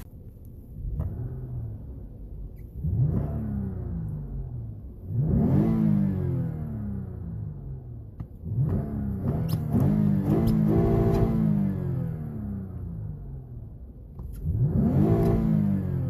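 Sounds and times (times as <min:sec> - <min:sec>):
car engine revving: 0:00.8 - 0:16.0.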